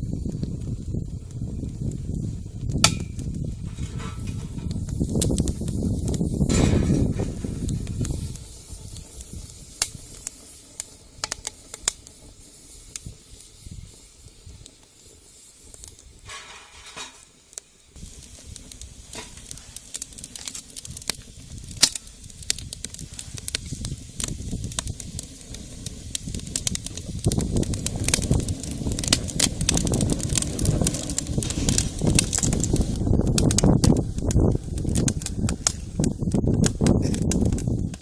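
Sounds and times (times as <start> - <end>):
sharp popping of fire: 0.0 - 38.0
wood fire crackling: 0.0 - 38.0.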